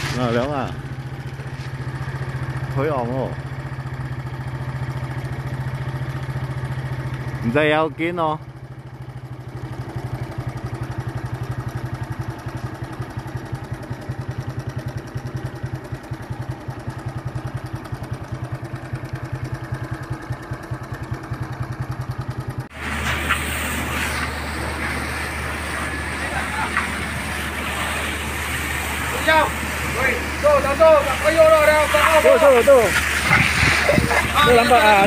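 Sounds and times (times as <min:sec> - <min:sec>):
engine rumble with hiss: 0:00.0 - 0:35.0
vehicle engine idling: 0:00.0 - 0:35.0.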